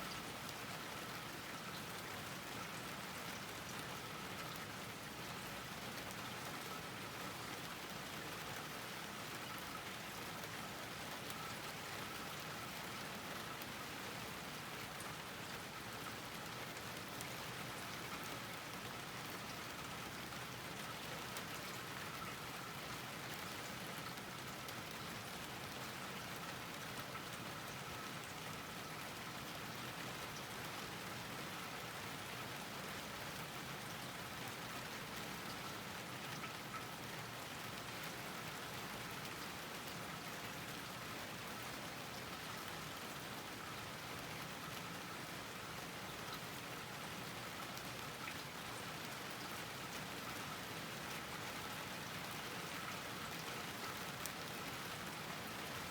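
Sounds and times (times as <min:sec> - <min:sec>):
steady rain on a garden: 0:00.0 - 0:55.9.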